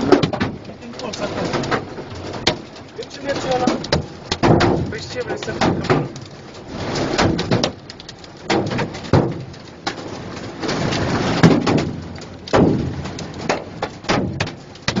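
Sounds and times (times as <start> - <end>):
hailstones knocking on car: 0.0 - 15.0
steady hail patter: 0.0 - 15.0.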